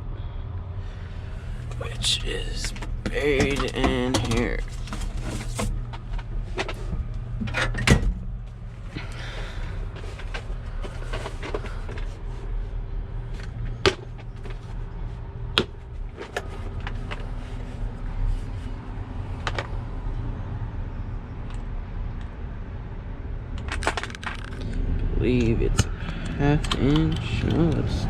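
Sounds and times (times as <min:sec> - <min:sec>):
steady low hum: 0:00.0 - 0:23.6, 0:24.4 - 0:28.0.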